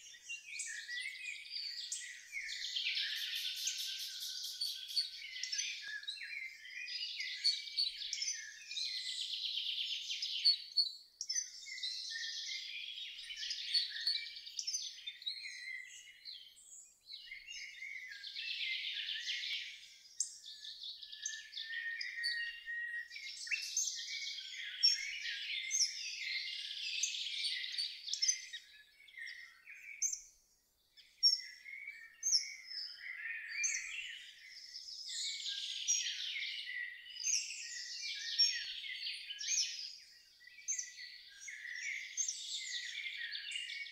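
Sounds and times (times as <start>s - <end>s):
birds singing and chirping: 0.0s - 43.9s.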